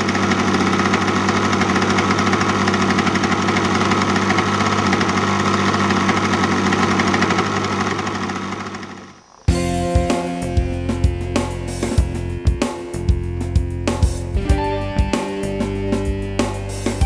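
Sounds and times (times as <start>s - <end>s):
model aircraft engine buzzing: 0.0s - 17.0s.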